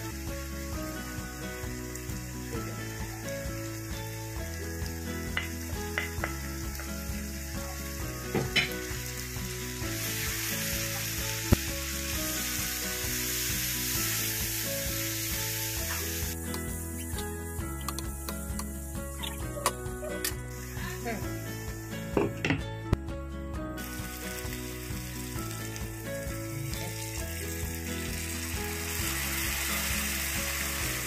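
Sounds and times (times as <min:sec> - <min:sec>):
onions sizzling in oil: 0:00.0 - 0:22.7, 0:23.7 - 0:31.0.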